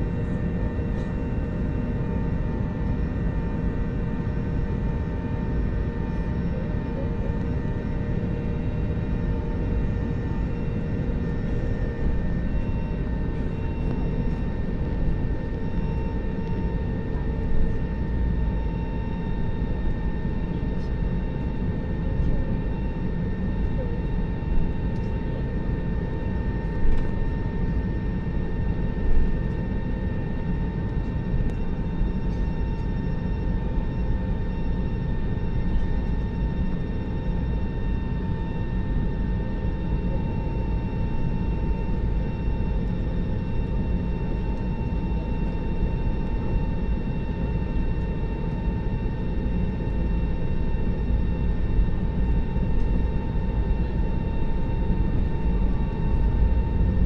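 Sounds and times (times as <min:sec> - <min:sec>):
jet engines heard from cabin: 0:00.0 - 0:57.0.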